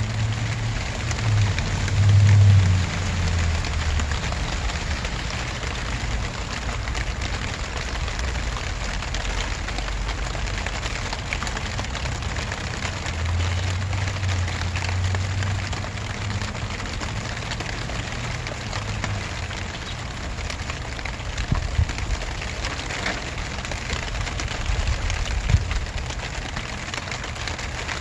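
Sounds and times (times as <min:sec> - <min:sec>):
rain falling on grass: 0:00.0 - 0:28.0.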